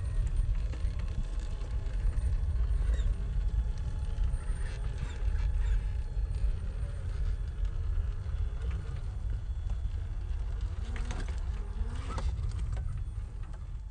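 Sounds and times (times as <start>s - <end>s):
wind rumble on microphone: 0.0s - 13.9s.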